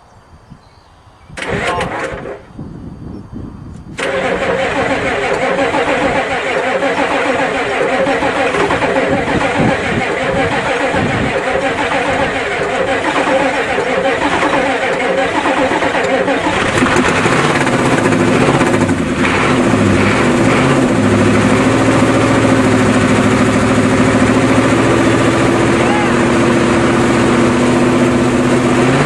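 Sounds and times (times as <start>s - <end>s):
diesel engine cranking: 1.4s - 2.6s, 3.9s - 29.0s
diesel engine running: 1.4s - 2.6s, 3.9s - 29.0s.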